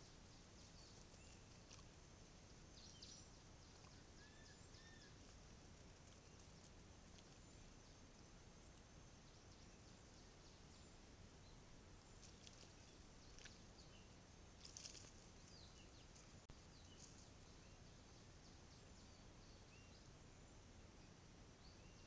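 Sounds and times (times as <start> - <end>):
small bird chirps: 0.0 - 22.0.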